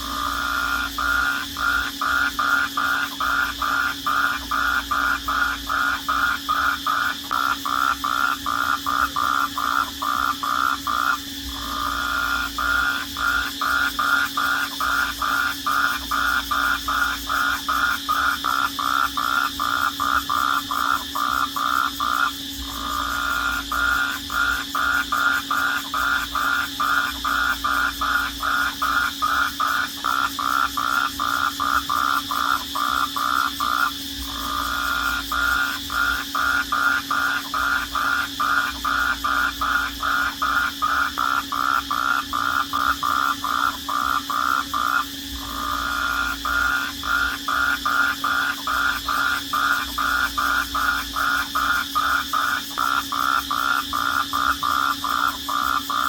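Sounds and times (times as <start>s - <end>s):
crickets pulsing chirp: 0.0s - 56.0s
high-pitched cricket trill: 0.0s - 56.0s.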